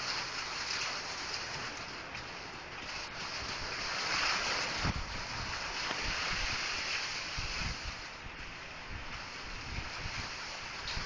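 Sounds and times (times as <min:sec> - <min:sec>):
rain falling: 0:00.0 - 0:11.0
wind buffeting microphone: 0:00.0 - 0:11.0.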